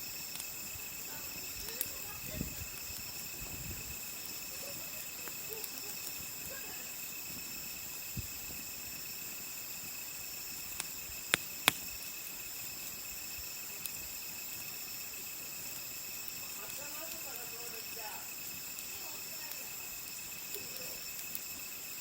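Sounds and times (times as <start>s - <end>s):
campfire wood popping: 0.0s - 22.0s
crickets chirring: 0.0s - 22.0s.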